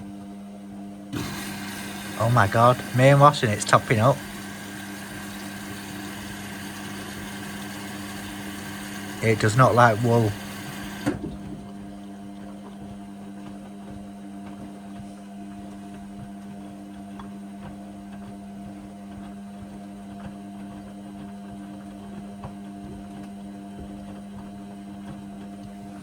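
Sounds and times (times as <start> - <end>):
washing machine hum: 0.0 - 26.0.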